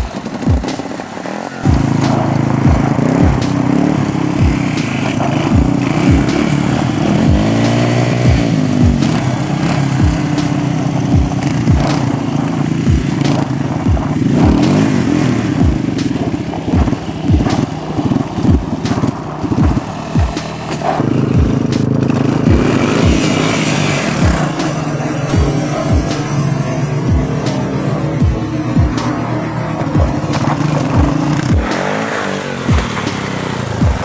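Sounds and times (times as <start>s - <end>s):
quad engines revving: 0.0s - 34.0s.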